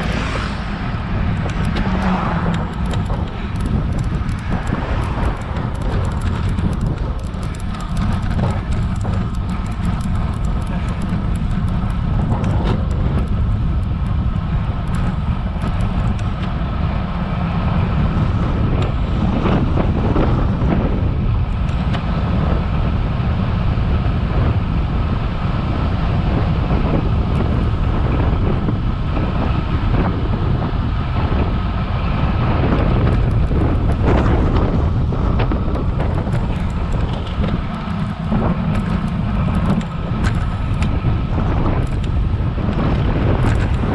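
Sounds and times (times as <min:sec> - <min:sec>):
road noise: 0:00.0 - 0:43.9
wind buffeting microphone: 0:00.0 - 0:43.9.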